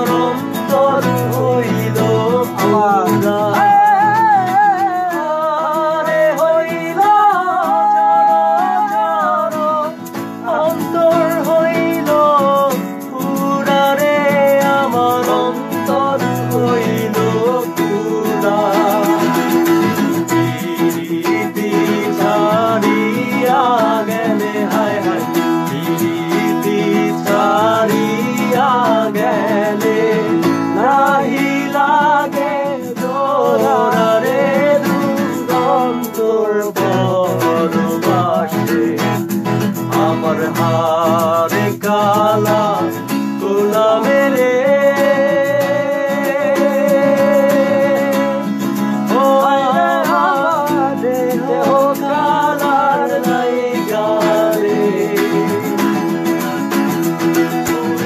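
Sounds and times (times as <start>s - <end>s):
acoustic guitar: 0.0s - 58.0s
men singing folk song: 0.0s - 58.0s.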